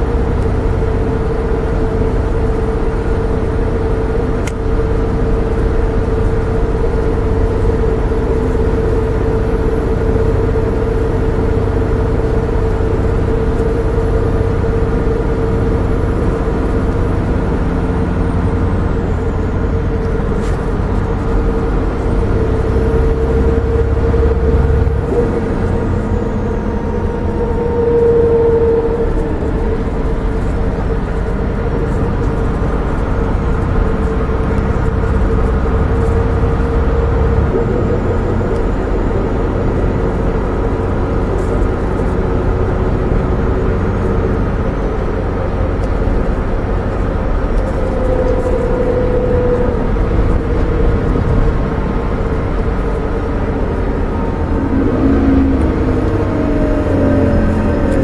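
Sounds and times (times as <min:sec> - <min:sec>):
diesel bus engine running: 0:00.0 - 0:58.0
high whine: 0:00.0 - 0:58.0
road and tyre rumble: 0:00.0 - 0:58.0.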